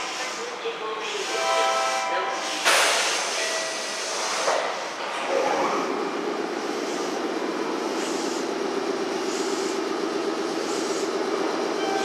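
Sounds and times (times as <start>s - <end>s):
electric train equipment drone: 0.0s - 12.0s.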